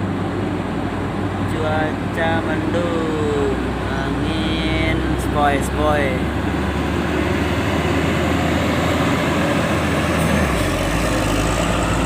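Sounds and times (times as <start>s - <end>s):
dense wash of noise: 0.0s - 12.0s
truck engine running: 0.0s - 12.0s.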